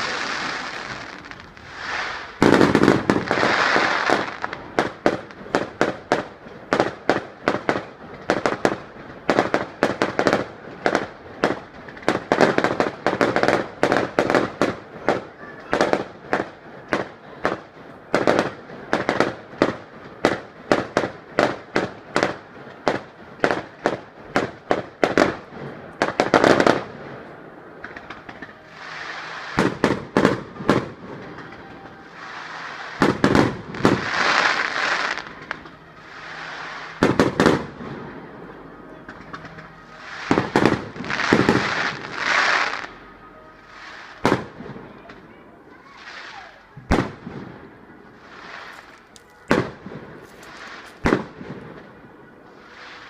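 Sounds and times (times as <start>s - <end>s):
firework bangs: 0.0s - 43.0s, 43.8s - 44.9s, 46.0s - 52.0s.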